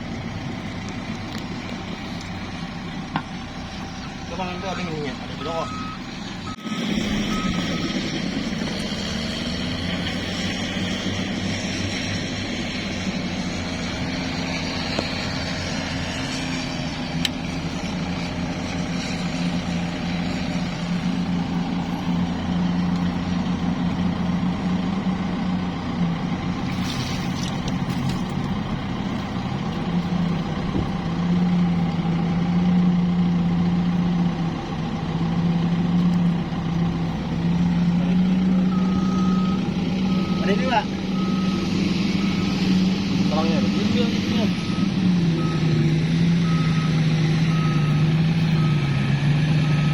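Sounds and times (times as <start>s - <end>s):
large vehicle engine droning: 0.0s - 49.9s.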